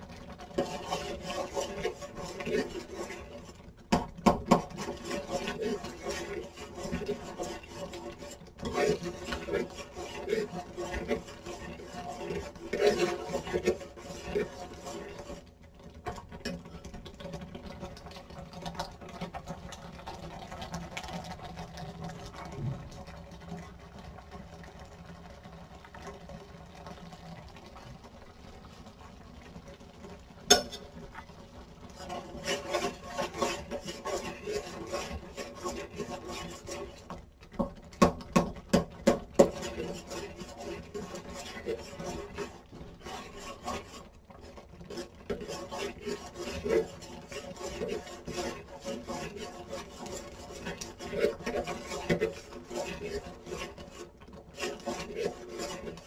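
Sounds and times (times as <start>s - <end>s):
utensil scraping in a pot: 0.0s - 56.0s.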